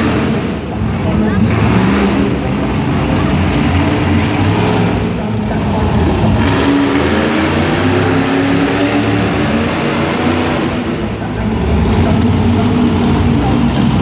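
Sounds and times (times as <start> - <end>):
loud truck engine revving: 0.0 - 14.0.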